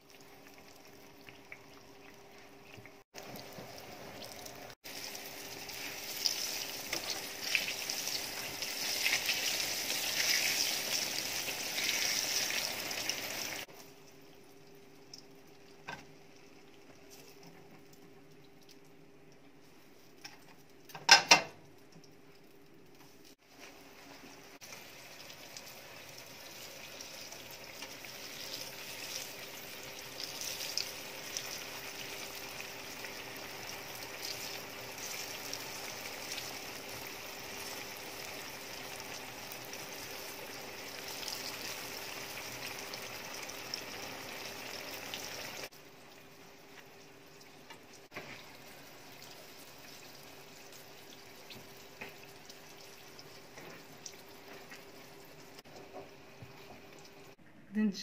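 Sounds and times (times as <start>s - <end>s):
eggplant sizzling in oil: 0.0s - 14.3s, 23.0s - 57.4s.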